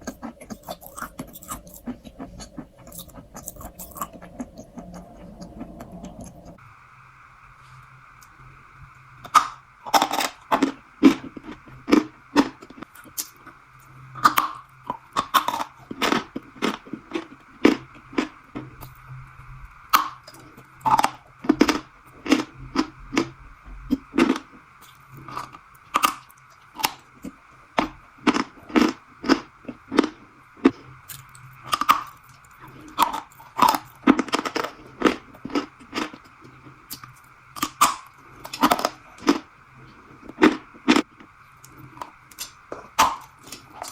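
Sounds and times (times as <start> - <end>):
crunchy treat being chewed: 0.0 - 6.6, 9.2 - 19.2, 19.9 - 43.9
faint steady hum: 0.0 - 43.9.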